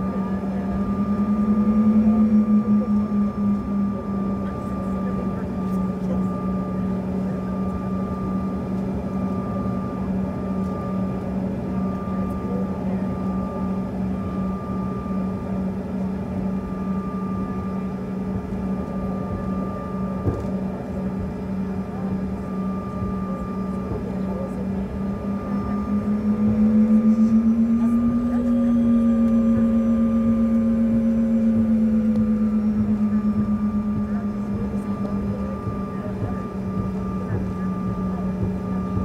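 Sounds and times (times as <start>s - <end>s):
airliner cabin drone: 0.0s - 39.0s.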